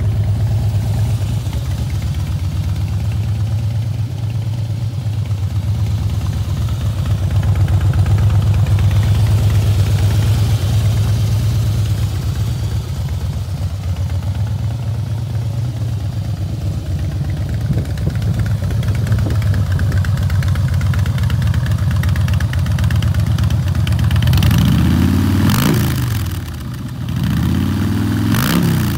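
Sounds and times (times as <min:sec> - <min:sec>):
motorcycle engine idling and revving: 0:00.0 - 0:28.9.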